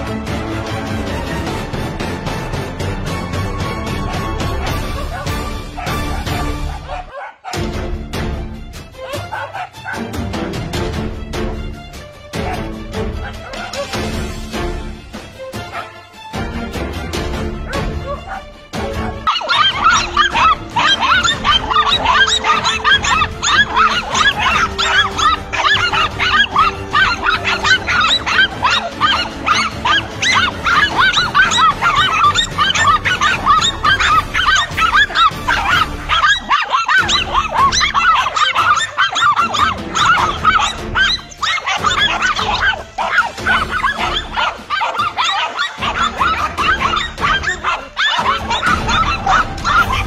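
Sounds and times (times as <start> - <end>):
dogs barking excitedly: 3.0 - 7.7, 9.0 - 10.3, 12.4 - 14.5, 15.6 - 16.0, 17.6 - 50.0.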